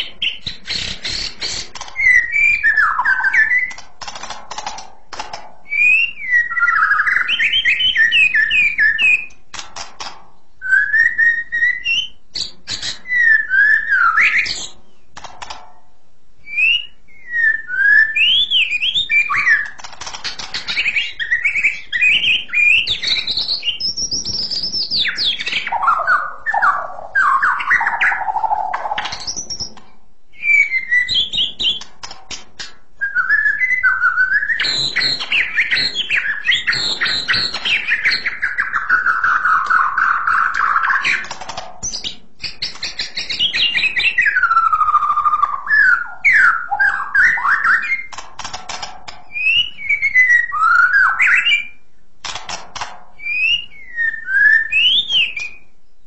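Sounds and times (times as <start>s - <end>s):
bird singing whistled song: 0.0s - 3.8s, 5.7s - 9.4s, 10.6s - 15.1s, 16.4s - 31.8s, 33.0s - 48.1s, 49.3s - 51.8s, 53.2s - 55.8s
sharp bird clicks: 0.0s - 10.3s, 11.0s - 15.8s, 18.2s - 51.6s, 52.2s - 54.1s.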